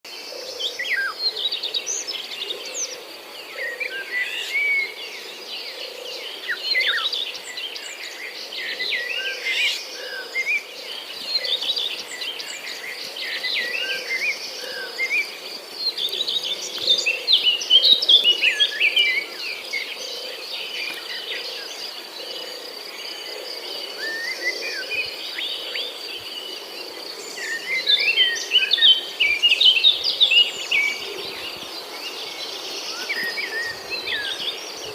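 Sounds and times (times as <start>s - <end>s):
birds chirping and singing: 0.1s - 34.9s.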